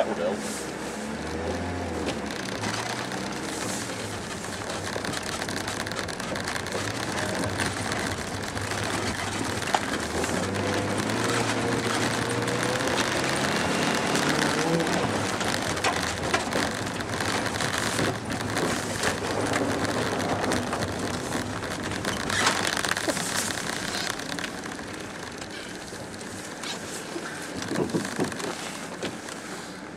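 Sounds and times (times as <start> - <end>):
tyres crunching through snow: 0.0 - 29.9
van engine running: 0.0 - 29.9.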